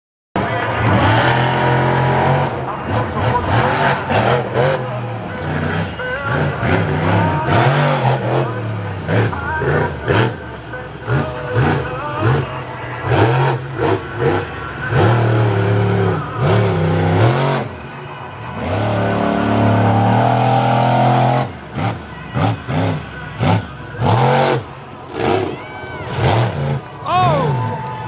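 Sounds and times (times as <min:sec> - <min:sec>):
monster truck engine revving: 0:00.4 - 0:28.0.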